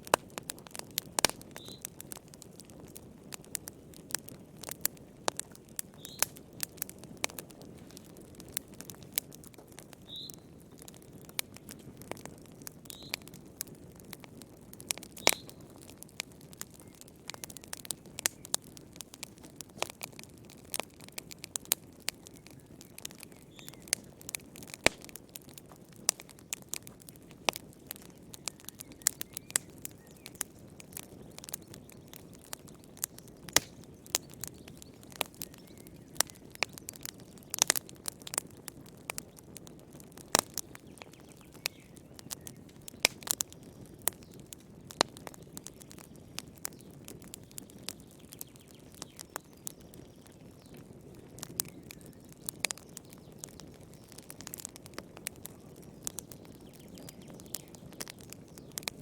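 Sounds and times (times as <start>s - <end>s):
low rush of flames: 0.0s - 59.0s
wood fire crackling and popping: 0.0s - 59.0s.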